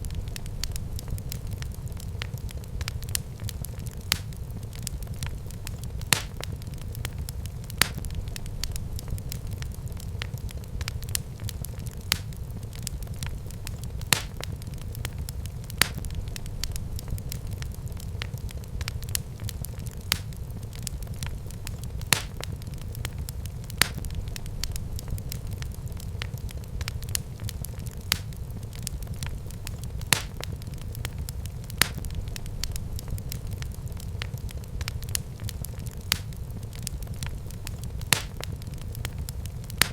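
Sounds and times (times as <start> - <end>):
fire crackles and pops: 0.0 - 39.9
fire rumbling in fireplace: 0.0 - 39.9.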